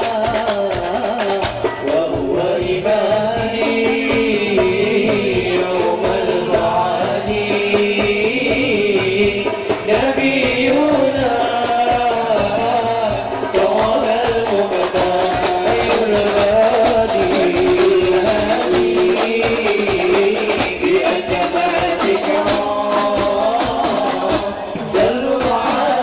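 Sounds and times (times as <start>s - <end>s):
young men singing through pa: 0.0s - 26.0s.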